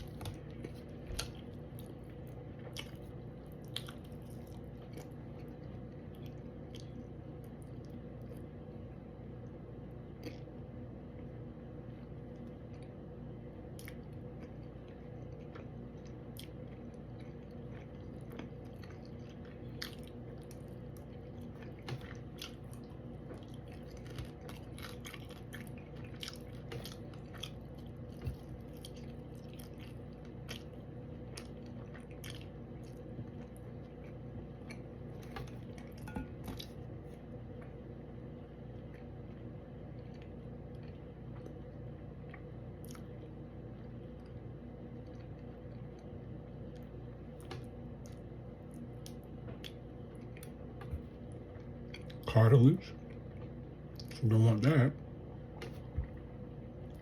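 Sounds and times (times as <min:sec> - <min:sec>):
person chewing close up: 0:00.0 - 0:08.5, 0:10.1 - 0:10.6, 0:13.7 - 0:36.9, 0:38.8 - 0:52.3
steady low hum: 0:00.0 - 0:57.0.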